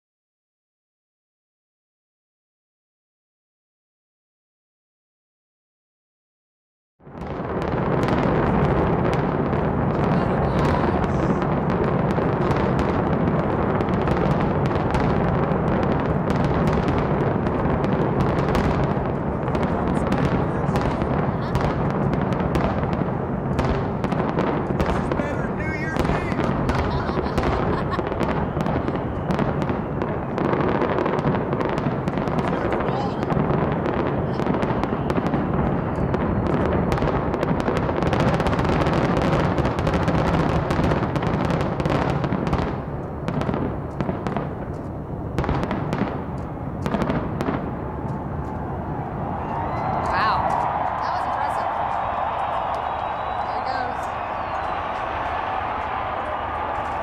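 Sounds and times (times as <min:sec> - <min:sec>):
fireworks crackling and popping: 0:07.0 - 0:57.0.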